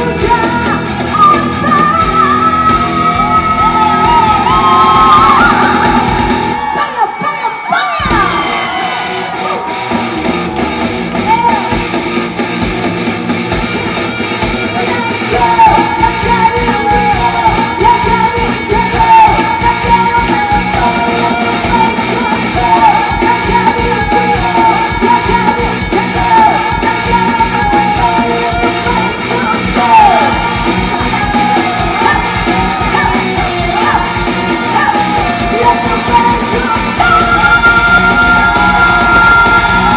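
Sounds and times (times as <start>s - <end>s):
live rock band music: 0.0s - 39.9s.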